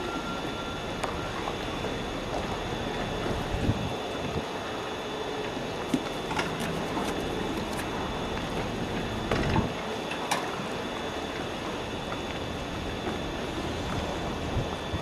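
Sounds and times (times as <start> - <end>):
wind noise on microphone: 1.6 - 15.0.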